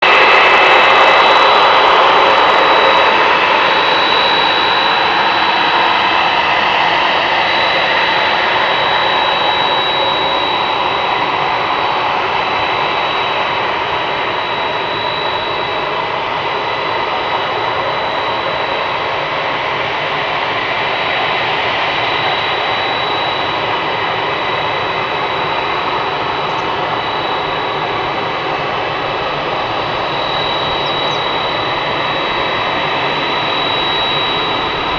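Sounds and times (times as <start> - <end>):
jet engine high whine: 0.0 - 34.9
jet engine roar: 0.0 - 34.9.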